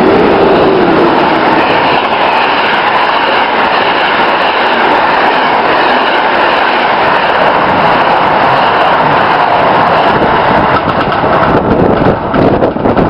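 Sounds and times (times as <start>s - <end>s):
train rushing past on rails: 0.0s - 13.0s.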